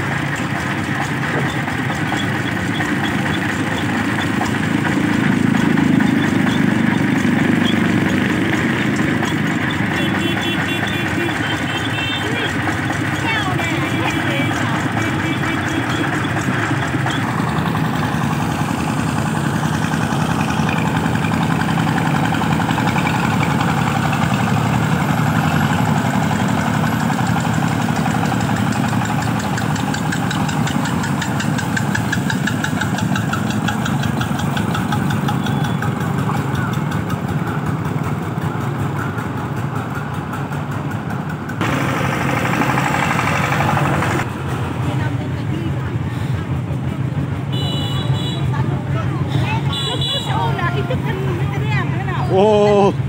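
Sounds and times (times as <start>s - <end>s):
tractor diesel engines chugging: 0.0s - 53.0s.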